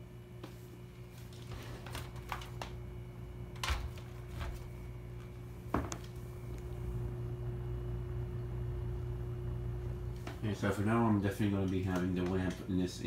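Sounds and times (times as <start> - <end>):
fan motor hum: 0.0 - 13.0.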